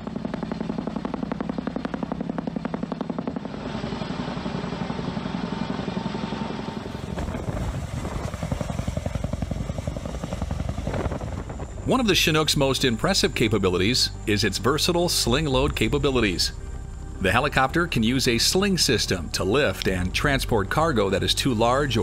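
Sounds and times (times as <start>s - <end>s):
helicopter rotors chopping: 0.0s - 22.0s
turbine rumble: 0.0s - 22.0s.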